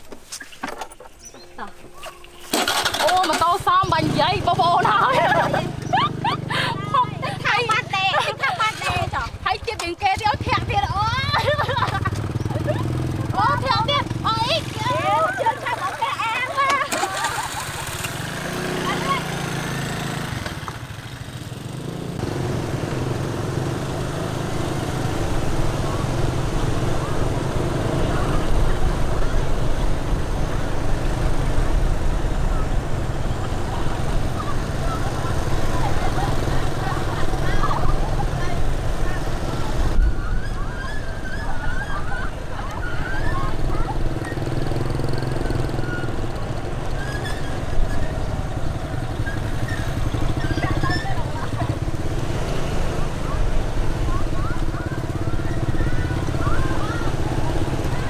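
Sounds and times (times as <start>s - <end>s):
road and wind noise: 0.0s - 58.0s
small motorbike engines: 0.2s - 58.0s.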